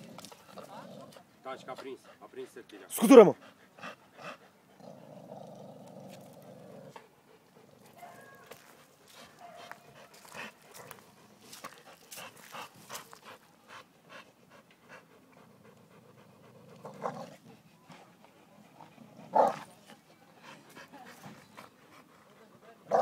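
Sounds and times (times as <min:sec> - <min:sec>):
dogs panting: 0:00.0 - 0:05.2, 0:06.2 - 0:23.0.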